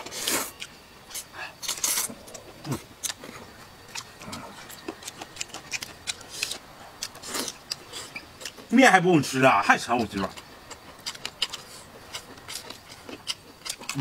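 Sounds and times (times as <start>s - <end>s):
wet chewing and lip-smacking: 0.5s - 8.7s, 10.0s - 14.0s.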